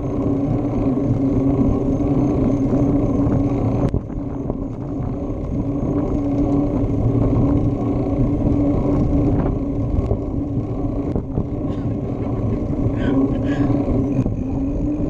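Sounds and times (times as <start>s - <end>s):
steady hum: 0.0s - 15.0s
wind and tyre rumble: 0.0s - 15.0s.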